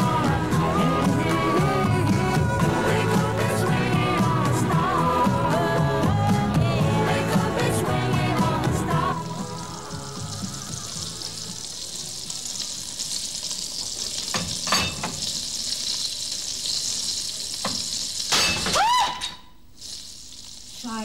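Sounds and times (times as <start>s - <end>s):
fat sizzling in a frying pan: 0.0s - 21.0s.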